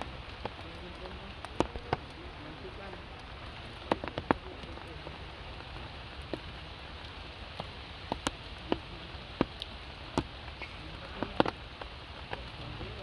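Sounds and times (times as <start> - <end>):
hiss of wet surroundings: 0.0 - 13.0
water drops ticking on wet surfaces: 0.0 - 13.0.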